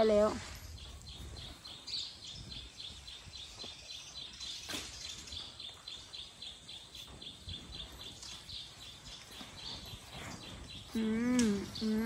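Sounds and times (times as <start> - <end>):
bird chirping: 0.0 - 12.0
faint outdoor background noise: 0.0 - 12.0.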